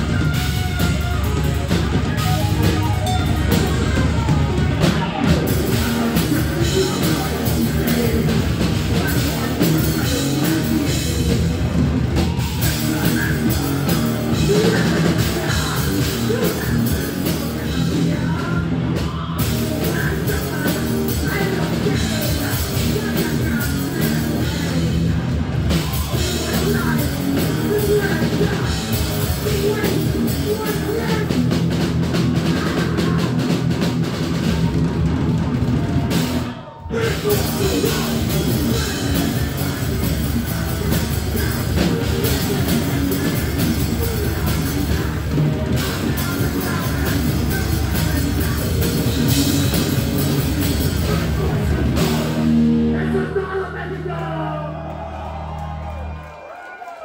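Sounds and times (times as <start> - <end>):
fast drums with cymbals: 0.0 - 52.6
distorted electric guitars: 0.0 - 54.3
metal band playing live: 0.0 - 54.4
singer's vocals: 1.5 - 35.0, 35.7 - 56.8.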